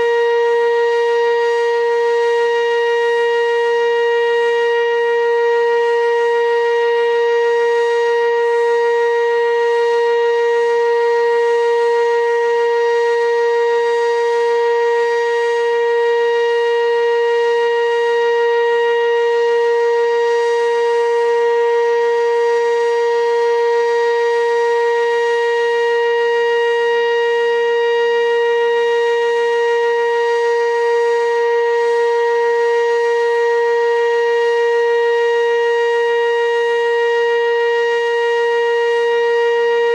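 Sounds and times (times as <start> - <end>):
warning siren steady wail: 0.0 - 39.9.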